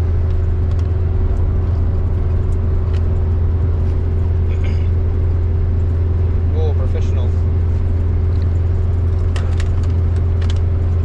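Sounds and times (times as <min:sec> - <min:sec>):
minibus engine drone: 0:00.0 - 0:11.0
road noise: 0:00.0 - 0:11.0.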